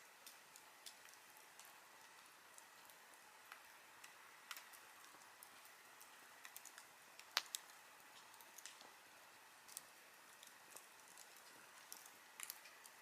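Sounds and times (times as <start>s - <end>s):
campfire wood crackling: 0.0s - 13.0s.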